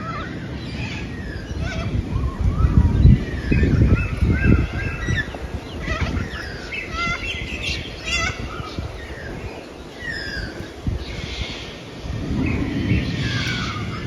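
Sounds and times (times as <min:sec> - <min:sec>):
birds chirping and whistling: 0:00.0 - 0:14.0
low rumbling noise: 0:00.0 - 0:14.0.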